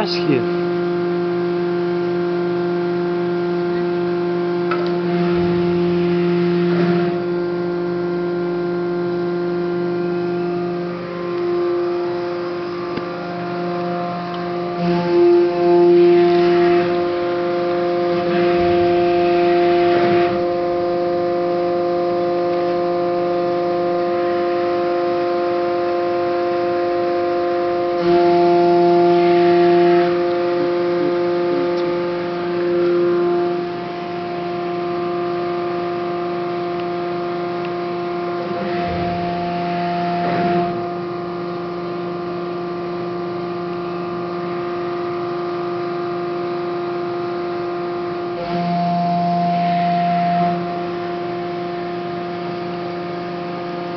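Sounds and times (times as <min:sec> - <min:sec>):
hydraulic press whine: 0:00.0 - 0:53.9.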